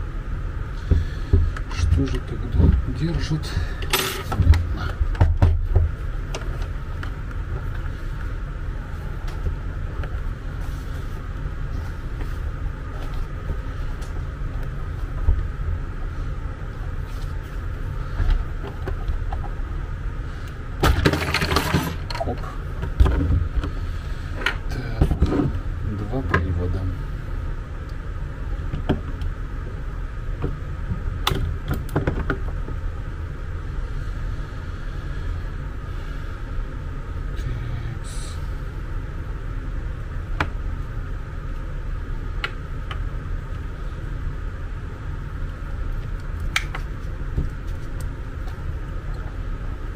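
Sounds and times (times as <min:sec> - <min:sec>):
low background rumble: 0:00.0 - 0:49.9.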